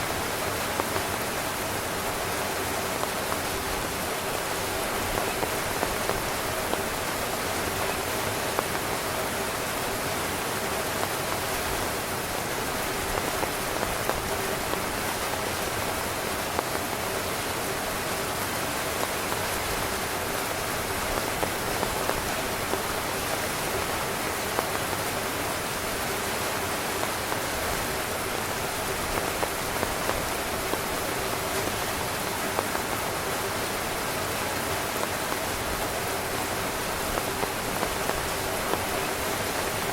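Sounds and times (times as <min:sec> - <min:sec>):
rain drops tapping on tent fabric: 0:00.0 - 0:39.9.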